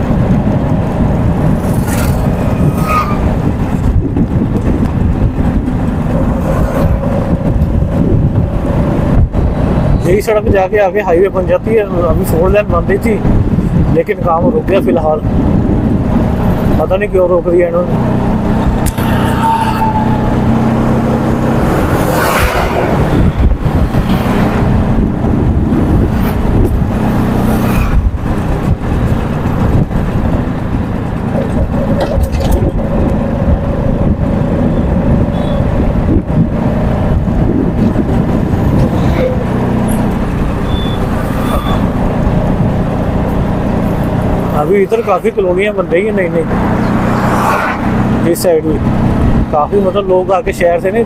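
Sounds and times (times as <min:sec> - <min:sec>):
engine hum: 0:00.0 - 0:51.0
road noise rumble: 0:00.0 - 0:51.0.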